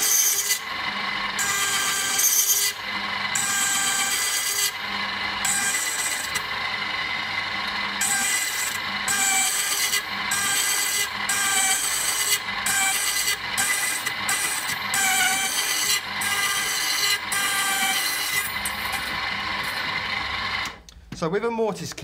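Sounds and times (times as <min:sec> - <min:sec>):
key cutting machine rasping: 0:00.0 - 0:20.8.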